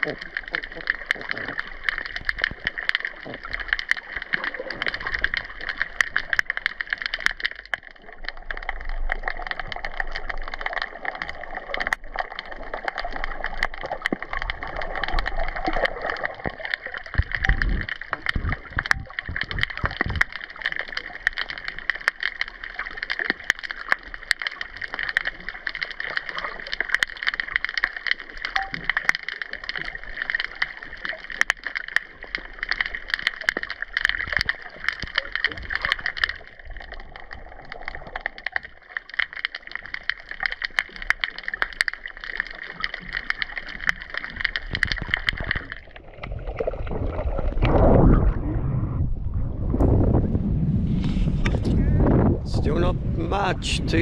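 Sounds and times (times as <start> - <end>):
fine crackling clicks: 0.0 - 48.0
muffled underwater wash: 0.0 - 54.0.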